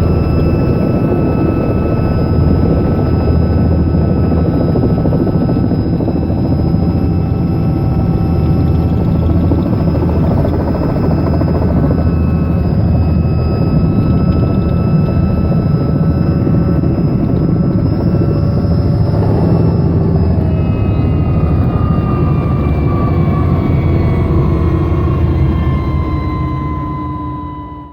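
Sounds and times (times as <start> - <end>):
helicopter turbine and rotors: 0.0 - 27.9.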